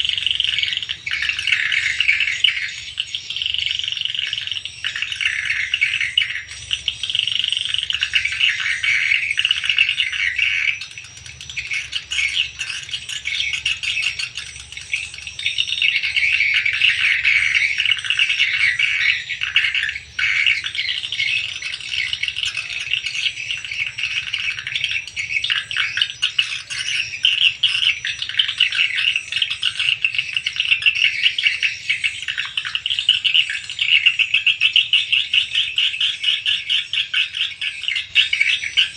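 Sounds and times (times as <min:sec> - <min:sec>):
swiftlets twittering: 0:00.0 - 0:38.9.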